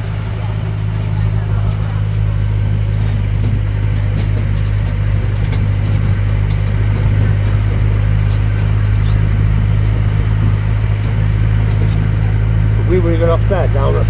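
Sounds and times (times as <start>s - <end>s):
road train engine humming: 0.0s - 14.0s.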